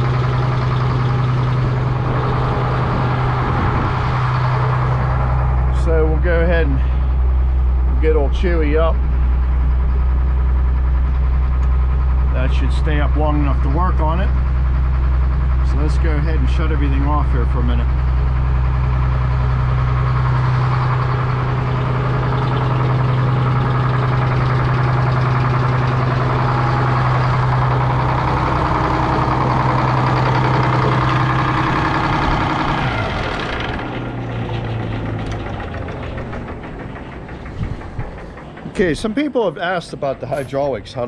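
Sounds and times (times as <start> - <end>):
saw coasting: 0.0 - 40.6
diesel engine running: 0.0 - 41.0.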